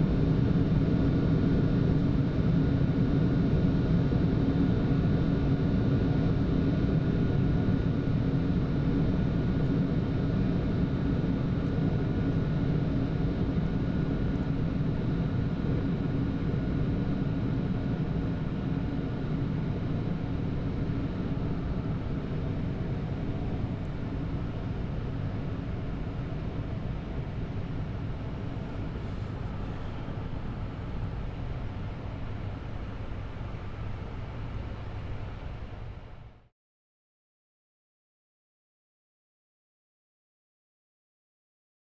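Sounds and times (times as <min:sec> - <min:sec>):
cockpit airflow and engine noise: 0:00.0 - 0:36.5
faint steady whine: 0:00.0 - 0:36.5.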